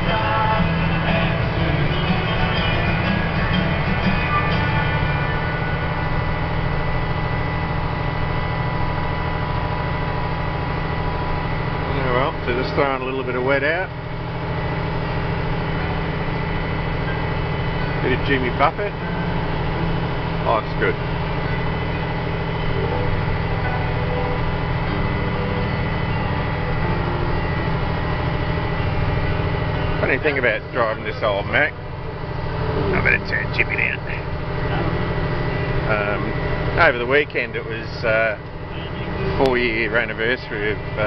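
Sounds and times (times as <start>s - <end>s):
road noise: 0.0s - 41.0s
truck engine drone: 0.0s - 41.0s.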